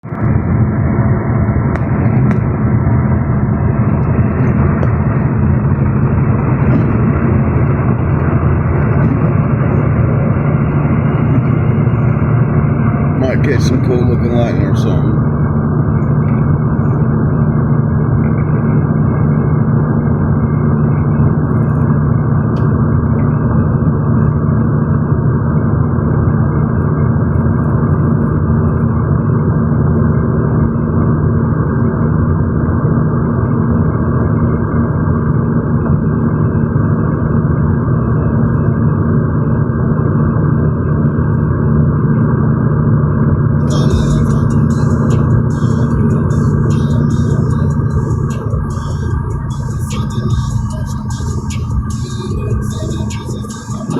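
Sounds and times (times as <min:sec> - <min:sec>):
vehicle road and engine noise: 0:00.0 - 0:53.9.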